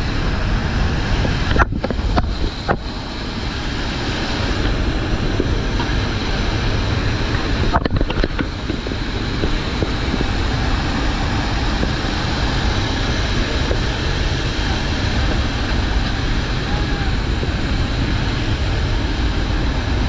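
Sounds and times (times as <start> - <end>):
turboprop engines roaring: 0.0 - 20.0.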